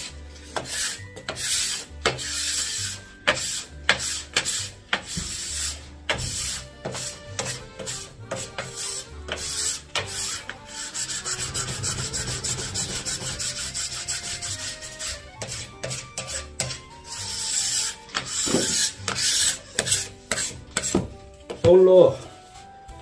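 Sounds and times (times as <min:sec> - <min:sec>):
faint background music: 0:00.0 - 0:23.0
plastic scraper rasping on snowboard: 0:00.6 - 0:21.1.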